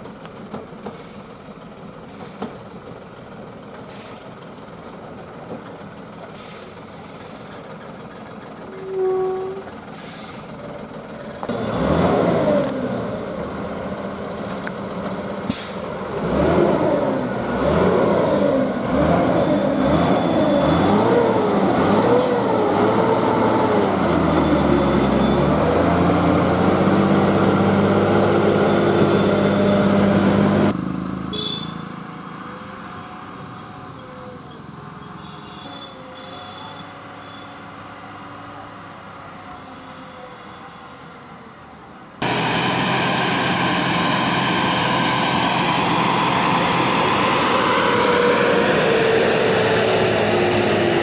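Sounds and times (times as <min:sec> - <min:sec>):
lorry diesel engine under load: 0:00.0 - 0:35.2, 0:36.0 - 0:51.0.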